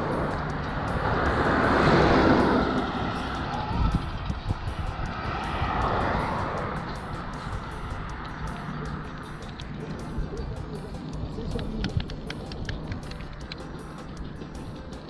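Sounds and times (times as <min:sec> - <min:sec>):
passing vehicle: 0:00.0 - 0:15.0
wind buffeting microphone: 0:00.0 - 0:15.0.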